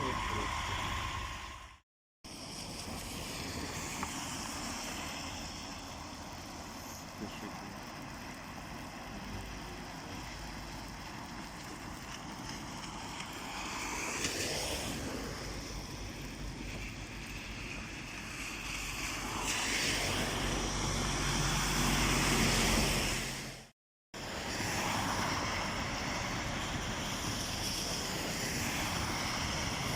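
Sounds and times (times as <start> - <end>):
traffic tyres and wind rush: 0.0 - 29.9.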